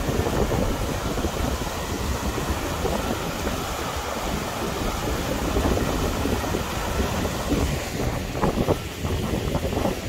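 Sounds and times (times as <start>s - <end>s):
river water pouring over weir: 0.0s - 10.0s
wind buffeting microphone: 0.0s - 10.0s.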